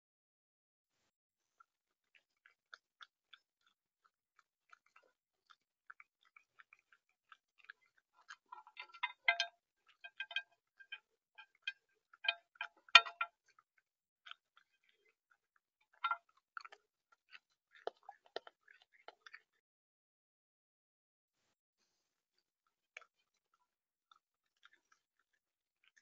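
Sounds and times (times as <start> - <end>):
raccoon chewing and crunching: 1.5 - 19.6, 22.4 - 26.0.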